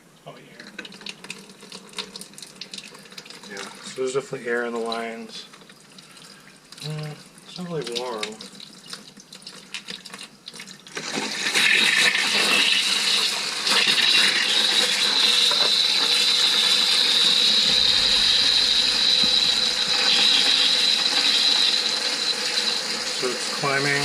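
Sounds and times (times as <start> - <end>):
faucet water gushing: 0.5 - 24.0.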